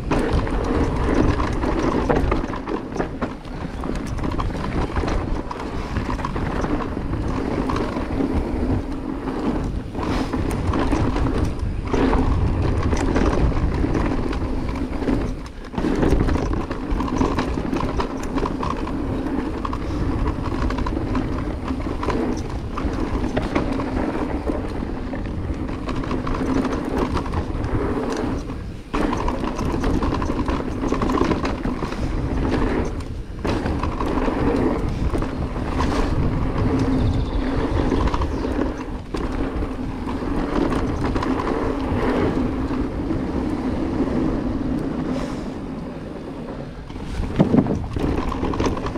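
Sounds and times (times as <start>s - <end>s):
bike jolting over bumps: 0.0s - 48.9s
tyres rolling over dirt: 0.0s - 48.9s.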